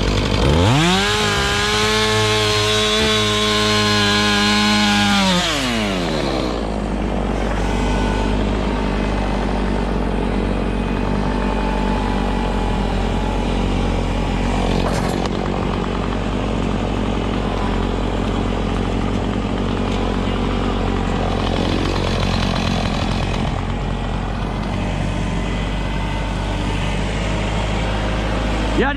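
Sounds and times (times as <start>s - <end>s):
chainsaw winding down to idle: 0.0s - 28.9s
engine revving: 0.0s - 28.9s
tractor diesel engine running: 0.0s - 28.9s.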